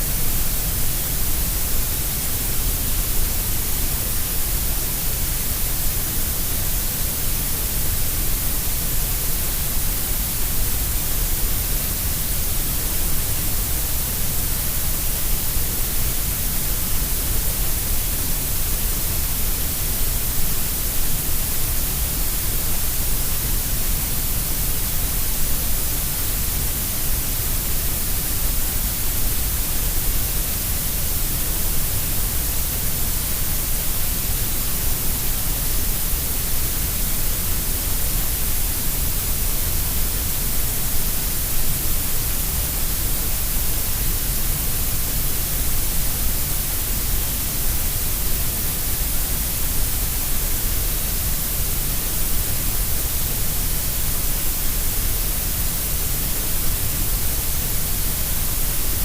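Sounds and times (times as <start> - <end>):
synthetic grey noise hiss: 0.0 - 59.0.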